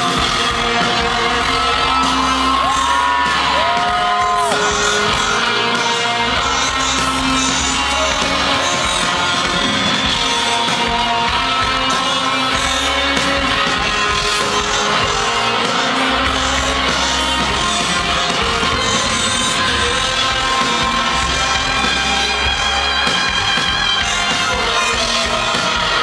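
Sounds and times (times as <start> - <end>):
electric guitar: 0.0 - 26.0
live rock band playing: 0.0 - 26.0
person singing: 0.0 - 26.0.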